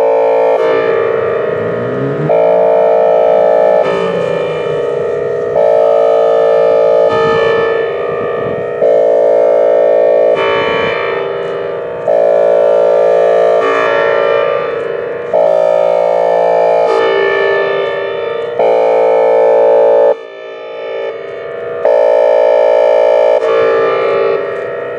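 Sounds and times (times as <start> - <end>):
hi-lo warning siren: 0.0 - 24.9.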